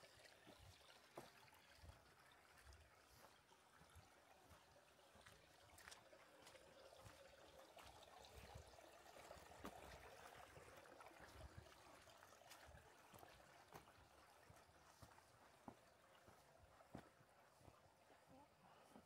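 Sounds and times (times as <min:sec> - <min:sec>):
faint stream trickling: 0:00.0 - 0:19.0.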